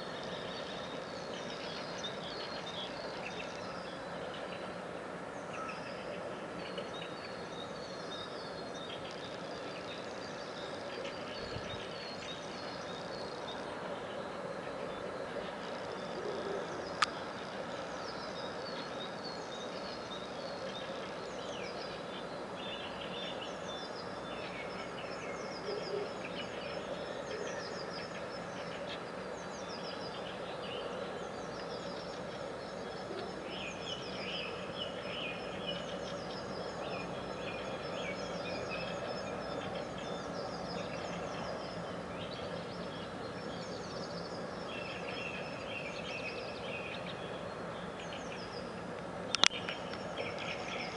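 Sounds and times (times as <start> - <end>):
songbirds chirping and trilling: 0.0 - 50.9
steady background hum: 0.0 - 50.9.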